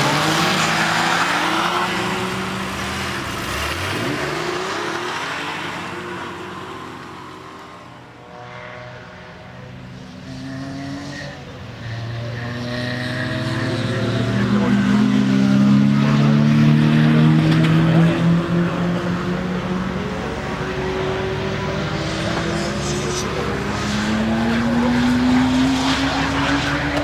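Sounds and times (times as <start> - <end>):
sports car engines revving: 0.0 - 27.0.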